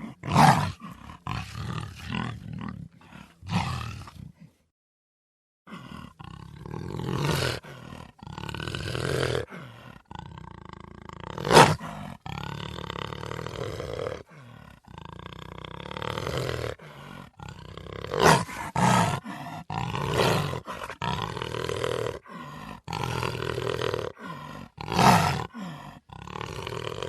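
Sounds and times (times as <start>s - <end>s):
big cat roaring: 0.0s - 4.4s, 5.7s - 27.0s
big cat growling: 0.0s - 4.6s, 5.7s - 27.0s.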